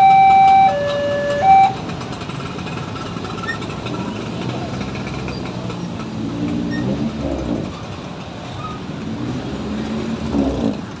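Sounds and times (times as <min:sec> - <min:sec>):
vehicle engines pulling away: 0:00.0 - 0:11.0.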